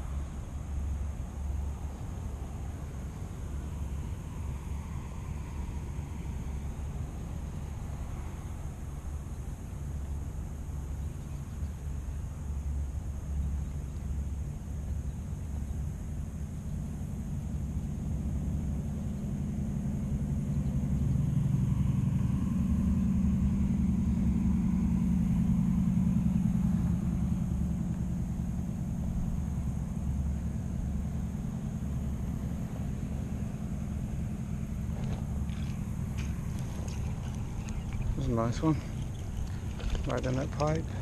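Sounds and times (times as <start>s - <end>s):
passing vehicle engine rumble: 0.0s - 41.0s.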